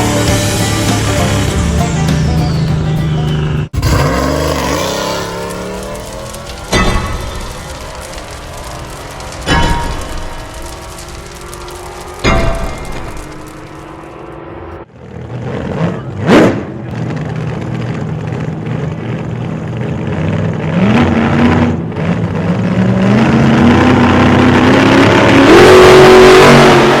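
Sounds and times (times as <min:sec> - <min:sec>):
vehicle engine accelerating: 0:00.0 - 0:27.0.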